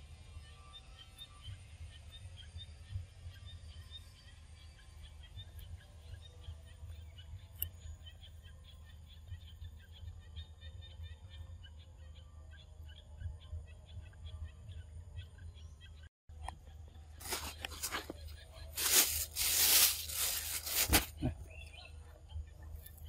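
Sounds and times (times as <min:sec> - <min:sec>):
birds chirping: 0:02.4 - 0:23.0.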